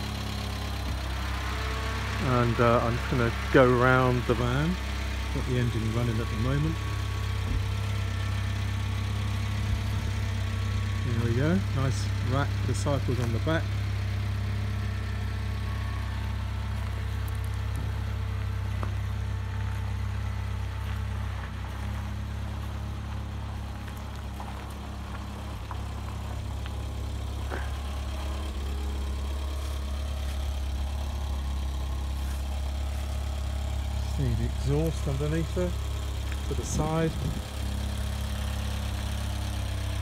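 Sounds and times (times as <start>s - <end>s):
van engine idling: 0.0s - 40.0s.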